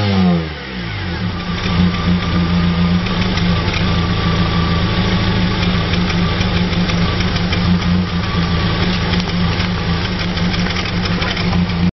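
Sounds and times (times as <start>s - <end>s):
car engine idling: 1.2s - 11.9s.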